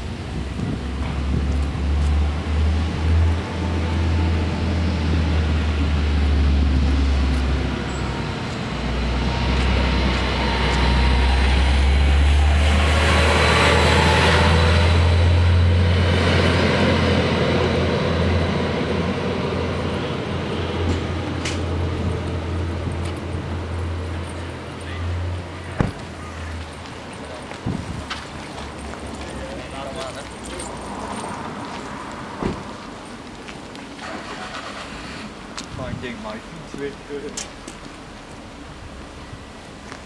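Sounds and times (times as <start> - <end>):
diesel train passing: 0.0 - 40.0.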